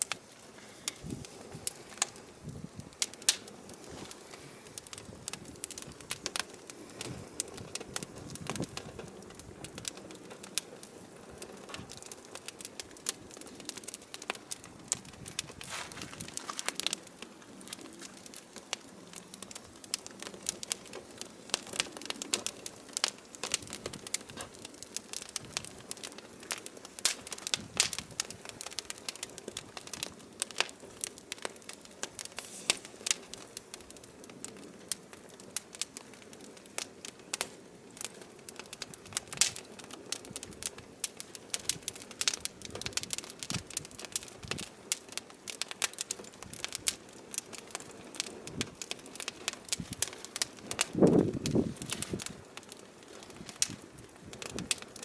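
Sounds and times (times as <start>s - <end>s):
firewood crackling: 0.0s - 55.0s
low rush of fire: 0.0s - 55.0s.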